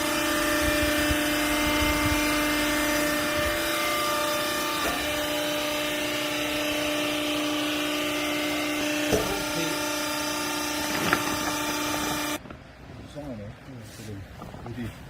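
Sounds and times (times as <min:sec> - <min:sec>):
hydraulic pump hum: 0:00.0 - 0:12.9.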